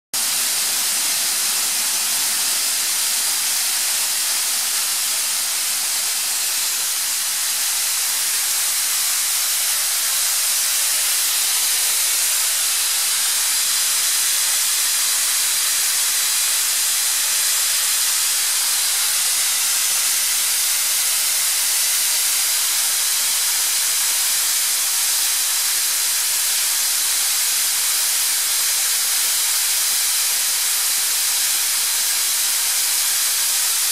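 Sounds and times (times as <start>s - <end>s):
air compressor hissing: 0.1s - 33.9s.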